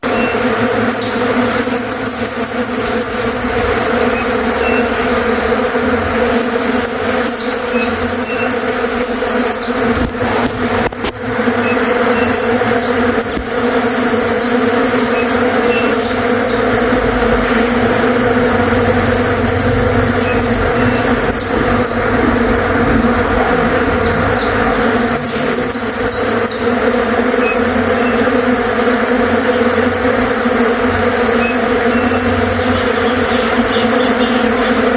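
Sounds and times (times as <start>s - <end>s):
bird singing high trills: 0.0s - 5.0s, 6.8s - 9.9s, 11.2s - 28.3s, 31.3s - 34.6s
bees buzzing: 0.0s - 34.9s.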